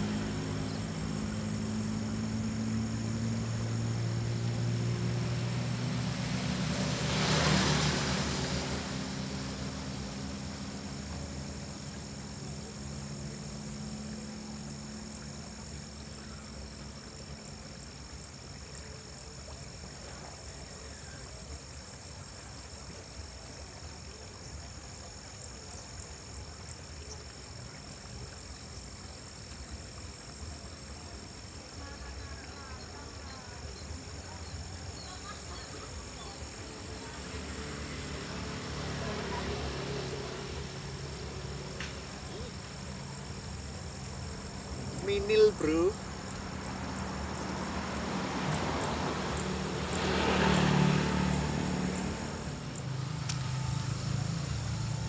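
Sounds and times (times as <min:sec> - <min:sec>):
passing vehicle engine hum: 0:00.0 - 0:20.8, 0:31.2 - 0:55.0
insects chirring: 0:00.0 - 0:55.0.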